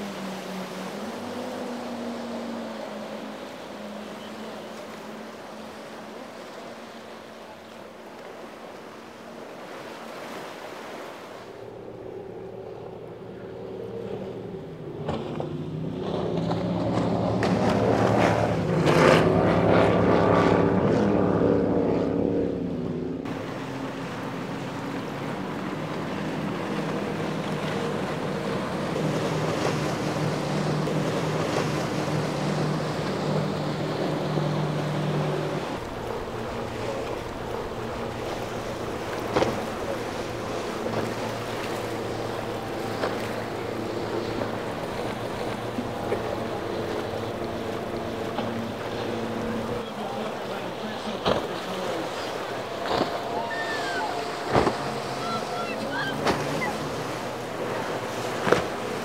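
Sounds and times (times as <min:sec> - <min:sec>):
boat passing loudly: 0:00.0 - 0:59.0
powerboat engines running: 0:00.0 - 0:59.0.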